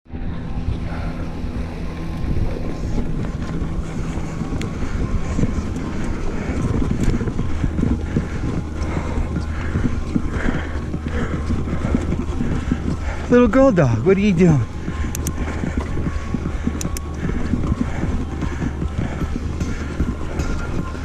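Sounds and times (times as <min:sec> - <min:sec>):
low steady hum: 0:00.1 - 0:21.0
wind on microphone: 0:00.1 - 0:21.0
bike rattling over bumps: 0:00.9 - 0:21.0
bike tyres rolling on dirt: 0:00.9 - 0:21.0.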